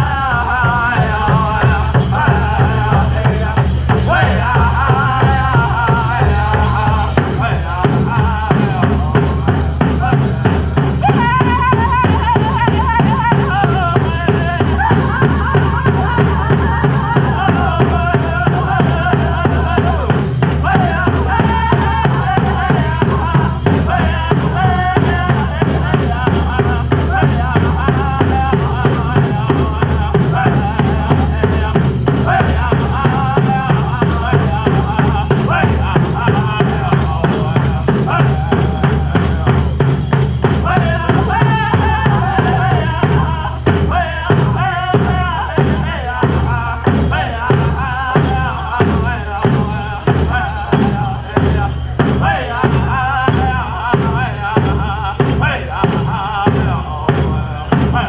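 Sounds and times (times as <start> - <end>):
big drum fast beat: 0.0 - 58.0
men singing together: 0.0 - 58.0.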